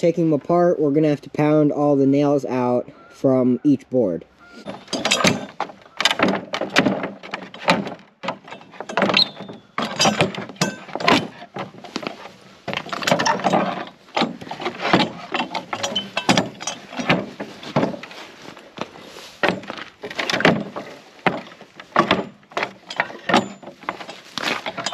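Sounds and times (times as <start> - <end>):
wooden boards creaking and cracking: 4.4 - 24.9.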